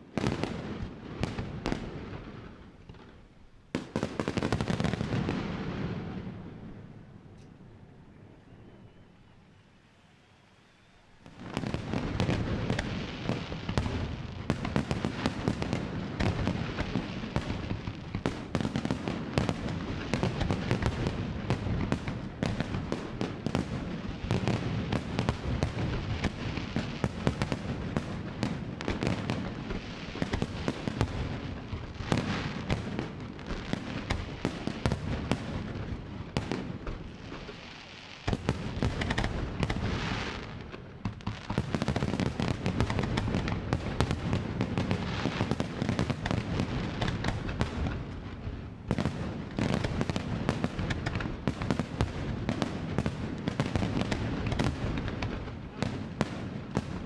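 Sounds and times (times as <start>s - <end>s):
fireworks bangs and crackles: 0.0s - 7.1s, 11.2s - 57.0s.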